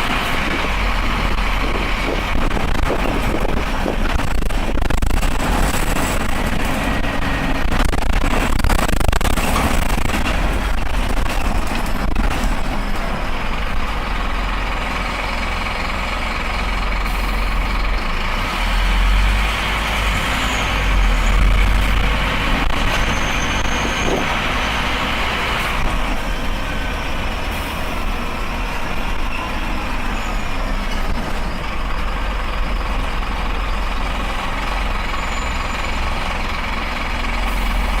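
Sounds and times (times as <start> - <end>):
coach engine drone: 0.0 - 38.0
road and mechanical noise: 0.0 - 38.0.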